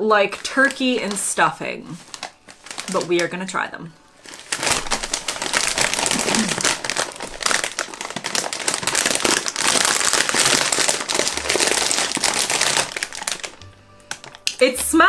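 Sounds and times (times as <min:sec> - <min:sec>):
crisp packet crinkling: 0:00.1 - 0:14.9.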